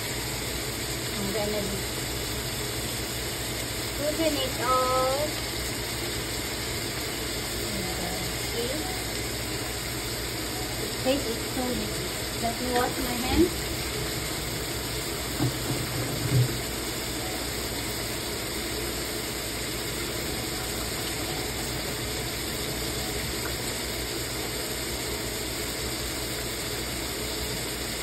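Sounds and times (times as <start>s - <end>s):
meat sizzling in a frying pan: 0.0s - 28.0s.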